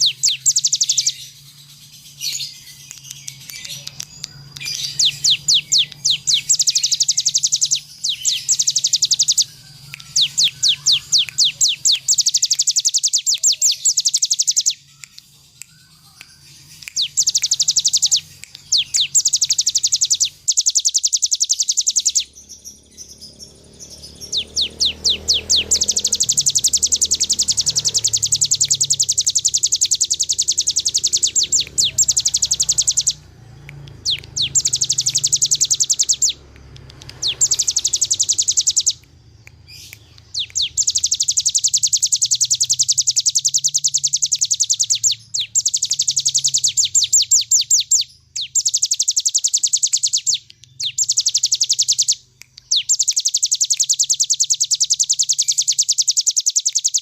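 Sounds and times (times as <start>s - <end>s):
bird singing fast trills: 0.0s - 57.0s.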